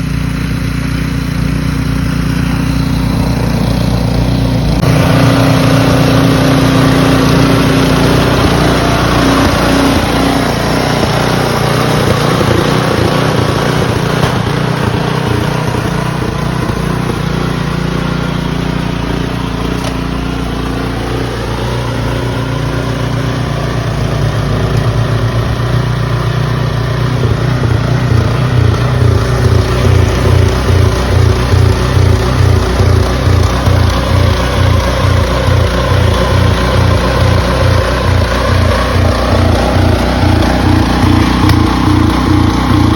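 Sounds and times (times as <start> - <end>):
engine running loudly: 0.0 - 42.9.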